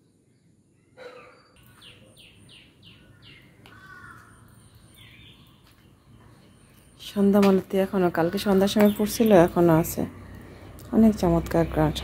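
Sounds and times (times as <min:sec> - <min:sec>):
birds chirping softly: 0:00.0 - 0:12.0
birds calling: 0:00.3 - 0:12.0.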